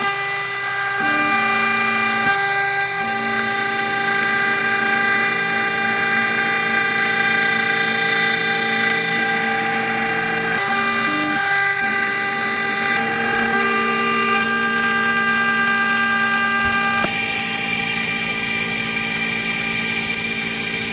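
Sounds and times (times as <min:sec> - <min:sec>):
router spindle whining: 0:00.0 - 0:20.9.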